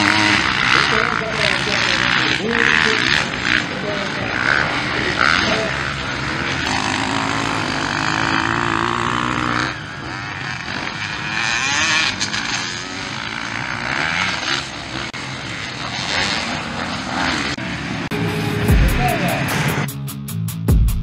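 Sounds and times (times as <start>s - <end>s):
other dirt bikes running: 0.0s - 19.9s
dirt bike engine revving: 0.0s - 20.0s.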